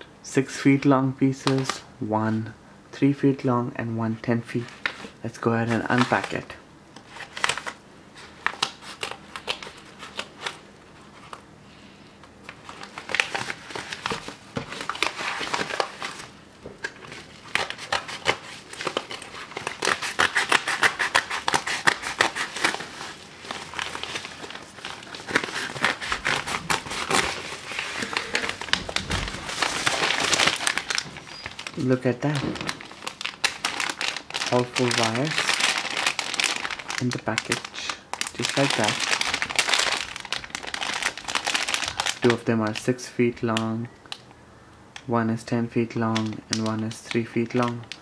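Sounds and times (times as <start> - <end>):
packaging crinkling and rustling: 4.6 - 11.4, 12.4 - 42.9, 46.1 - 48.0.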